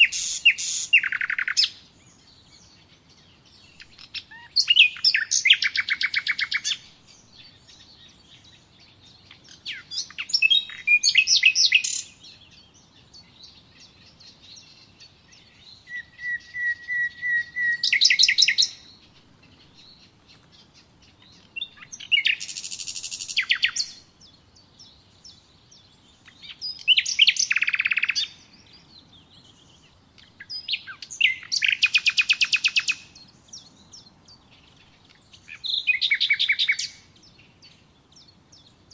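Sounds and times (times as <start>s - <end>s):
songbird trills and chirps: 0.0s - 38.9s.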